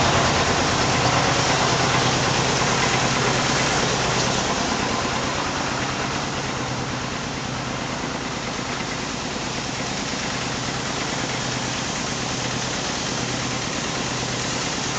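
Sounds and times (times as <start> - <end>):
steady rushing noise: 0.0 - 12.6
engine humming: 0.0 - 14.9.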